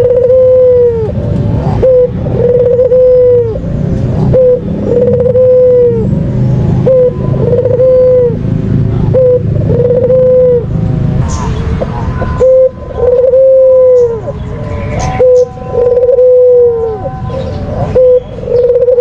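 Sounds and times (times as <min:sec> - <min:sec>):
dove cooing: 0:00.0 - 0:06.1, 0:06.7 - 0:08.4, 0:09.0 - 0:19.0
low rumble: 0:03.2 - 0:18.5.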